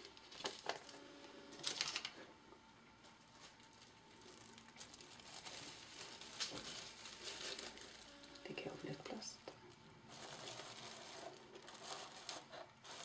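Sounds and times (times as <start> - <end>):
plastic film crinkling: 0.0 - 2.3, 3.0 - 13.0.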